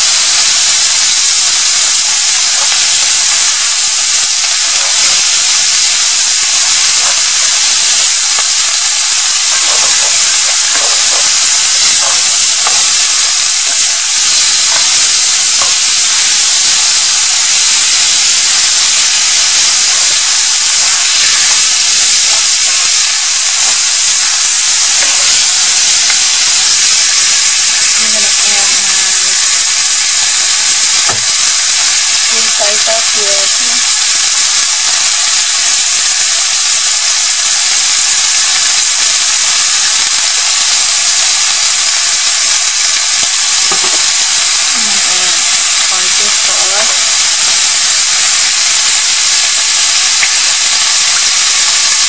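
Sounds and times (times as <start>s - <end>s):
chicken sizzling in hot oil: 0.0s - 52.0s.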